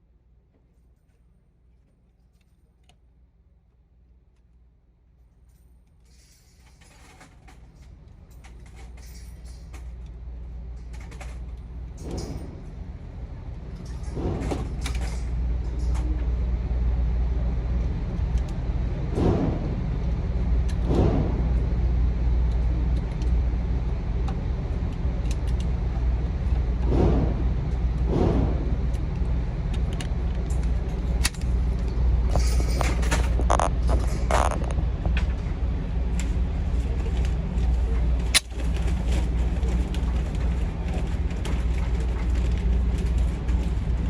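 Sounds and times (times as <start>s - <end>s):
low hum of shooting range: 0.0s - 44.0s.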